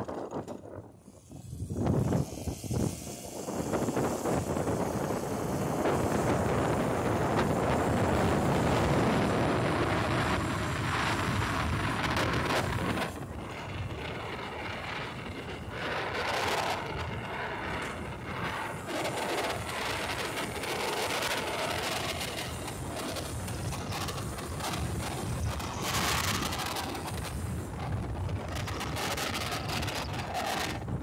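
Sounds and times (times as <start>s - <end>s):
tyre and road noise: 0.0s - 31.0s
wind rushing over microphone: 0.0s - 31.0s.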